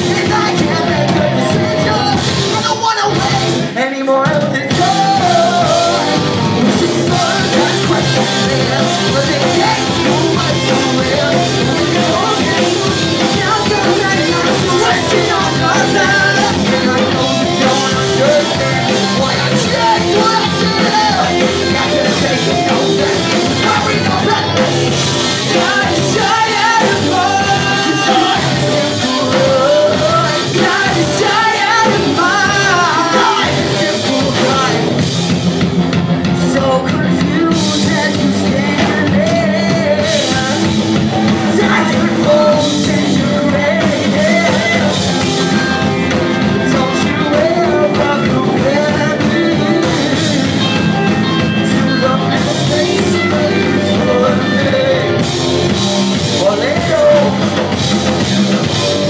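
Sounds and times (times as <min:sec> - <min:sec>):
bass guitar: 0:00.0 - 0:59.0
distorted electric guitars: 0:00.0 - 0:59.0
drum kit: 0:00.0 - 0:59.0
lead singer singing: 0:00.0 - 0:59.0.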